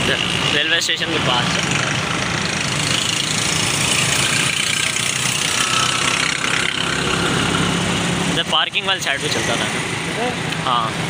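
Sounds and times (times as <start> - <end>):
motorcycle engine running: 0.0 - 10.3
road traffic hum: 0.0 - 11.0.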